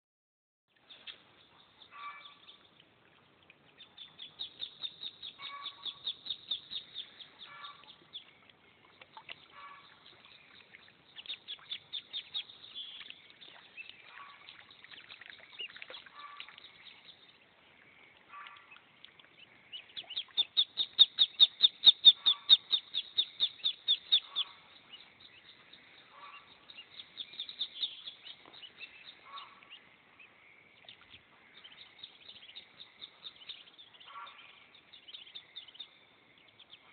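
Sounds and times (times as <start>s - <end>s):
ducklings peeping: 3.6s - 36.9s.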